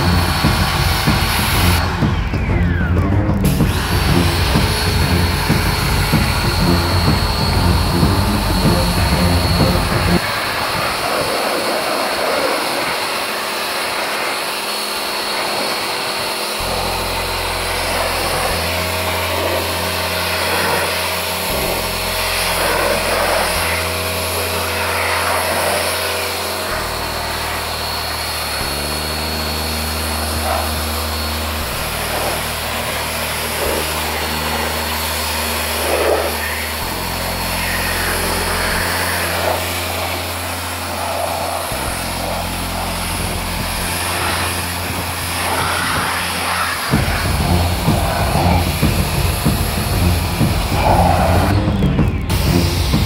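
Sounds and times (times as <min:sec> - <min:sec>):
pressure washer spraying water: 0:00.0 - 0:53.0.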